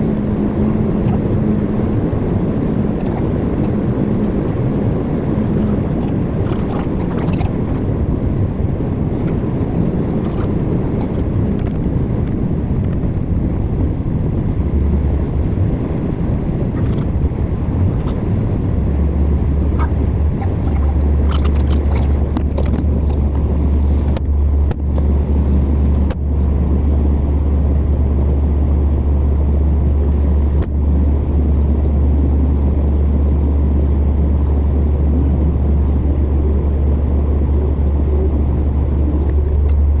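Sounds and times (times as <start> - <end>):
deep steady drone: 0.0 - 40.0
vehicle road and engine rumble: 0.0 - 40.0.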